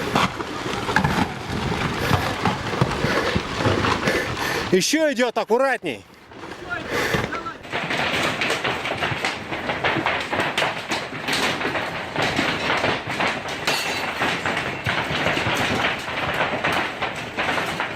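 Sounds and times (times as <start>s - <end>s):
rocks tumbling and clattering: 0.0s - 17.9s.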